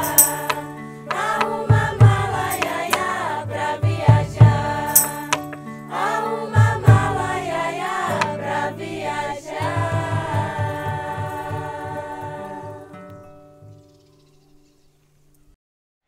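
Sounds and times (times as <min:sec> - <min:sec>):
choir singing folk song: 0:00.0 - 0:13.8.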